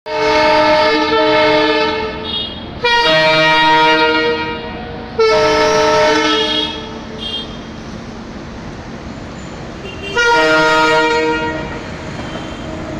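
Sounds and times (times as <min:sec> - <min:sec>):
locomotive horn blasts: 0:00.1 - 0:07.7, 0:09.8 - 0:12.9.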